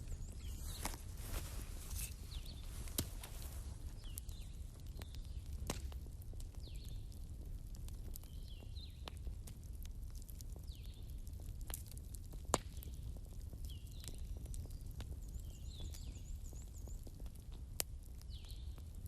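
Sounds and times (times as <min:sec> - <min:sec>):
wood bonfire crackling: 0:00.0 - 0:19.0.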